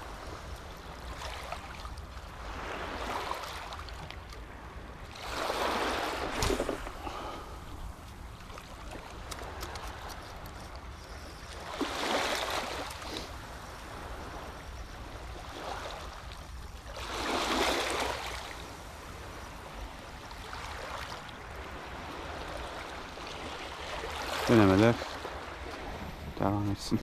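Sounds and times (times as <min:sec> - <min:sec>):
small waves washing against shore: 0:00.0 - 0:27.0.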